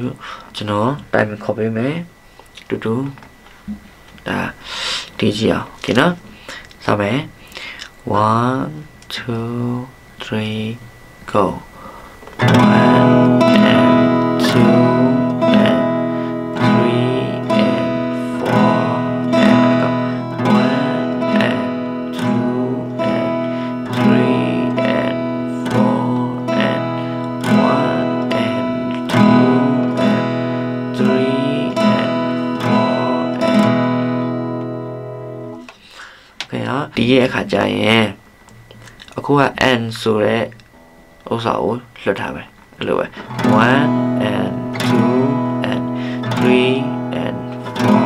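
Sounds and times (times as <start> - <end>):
acoustic guitar strumming: 3.0 - 48.0.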